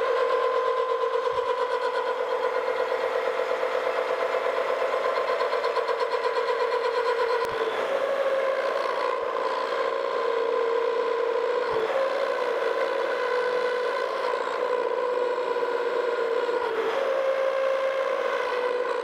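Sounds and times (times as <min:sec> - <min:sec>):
milling machine whine: 0:00.0 - 0:19.0.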